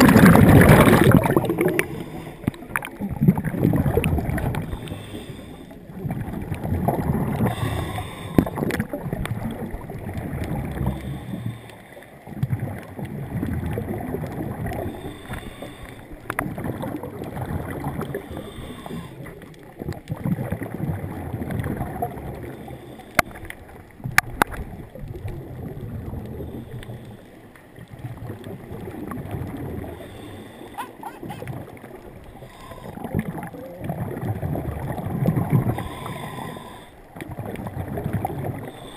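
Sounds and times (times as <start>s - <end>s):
water rushing underwater: 0.0s - 38.9s.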